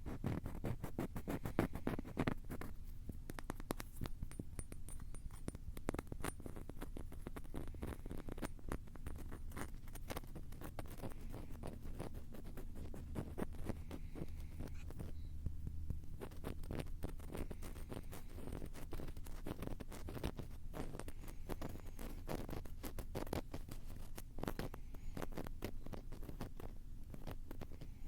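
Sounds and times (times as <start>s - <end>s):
tapping and scratching on microphone: 0.0s - 28.0s.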